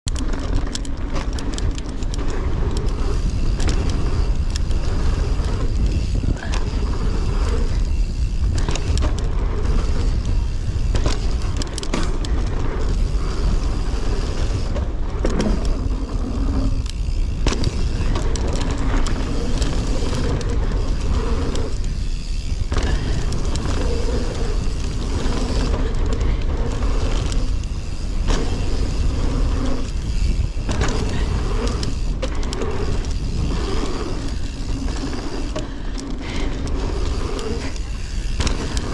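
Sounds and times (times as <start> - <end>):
bike clicks and rattles: 0.0 - 38.9
tyres on dirt: 0.1 - 38.9
wind rushing on microphone: 0.1 - 38.9.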